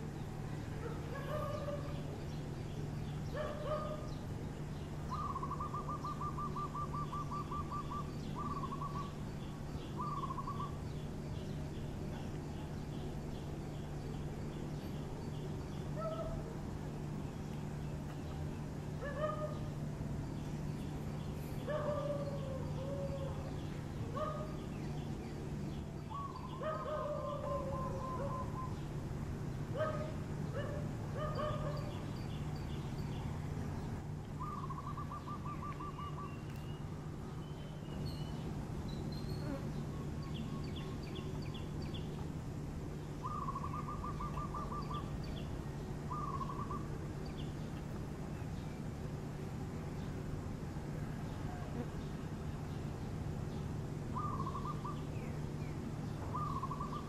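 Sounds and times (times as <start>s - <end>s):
steady low hum: 0.0s - 57.0s
birds whistling and trilling: 0.6s - 16.5s, 17.8s - 28.9s, 29.8s - 42.3s, 43.2s - 47.8s, 53.5s - 57.0s.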